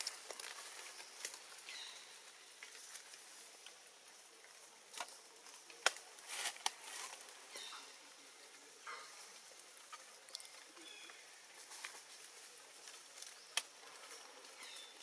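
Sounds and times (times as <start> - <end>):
leaves rustling: 0.0 - 15.0.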